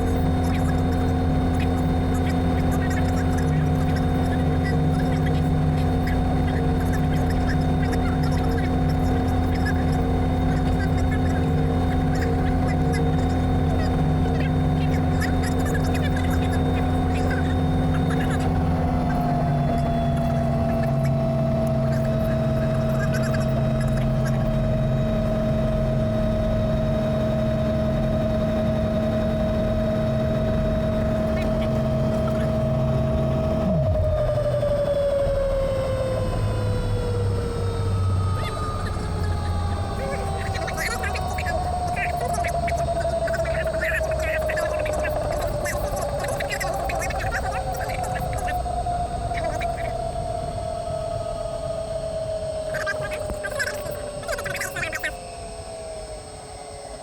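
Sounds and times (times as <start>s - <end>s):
helicopter engine and rotors droning: 0.0s - 57.0s
low hum: 0.0s - 57.0s.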